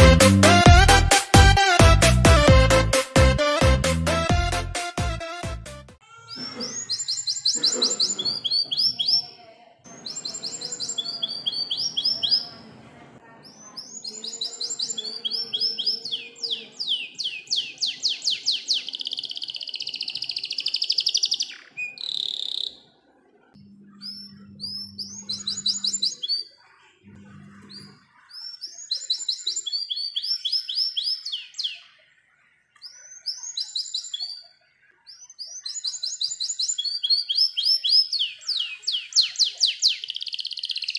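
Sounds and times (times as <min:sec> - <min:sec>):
canary singing trills: 0:06.0 - 0:23.0, 0:23.6 - 0:40.9.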